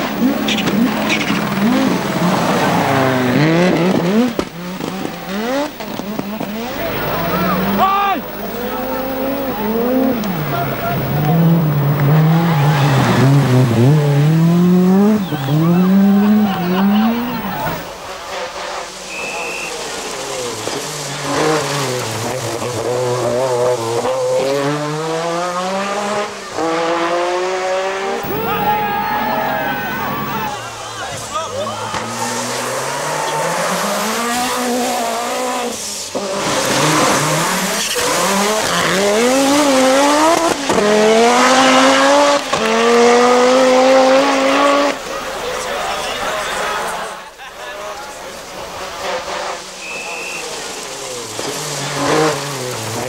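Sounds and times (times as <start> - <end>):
rally car engine revving: 0.0 - 19.0, 20.4 - 30.6, 31.9 - 45.4, 48.6 - 49.9, 50.6 - 53.0.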